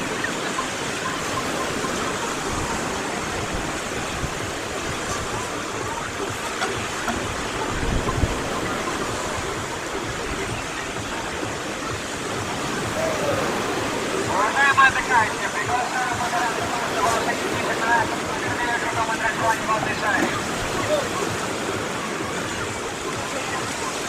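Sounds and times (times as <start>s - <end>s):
surf washing onto beach: 0.0s - 24.0s.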